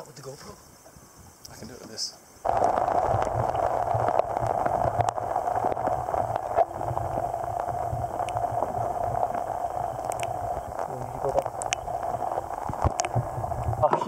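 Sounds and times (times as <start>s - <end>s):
muffled underwater hiss and rumble: 0.0s - 14.0s
faint clicks and gurgles: 2.4s - 14.0s.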